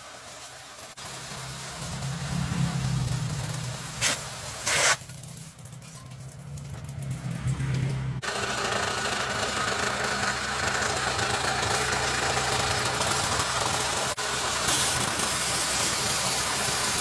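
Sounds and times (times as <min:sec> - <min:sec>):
loud even hiss: 0:00.0 - 0:05.1, 0:08.2 - 0:17.0
car wash motor hum: 0:00.0 - 0:17.0.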